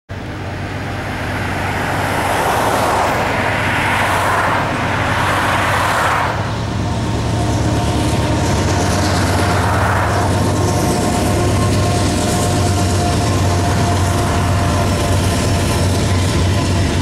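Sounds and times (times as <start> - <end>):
cars passing: 0.1 - 17.0
diesel locomotive rumble: 0.1 - 17.0.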